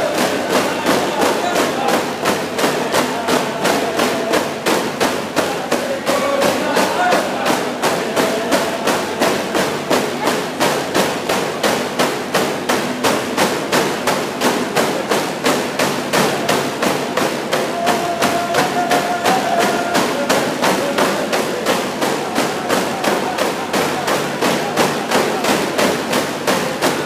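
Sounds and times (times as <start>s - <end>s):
hand drums beating: 0.0s - 27.0s.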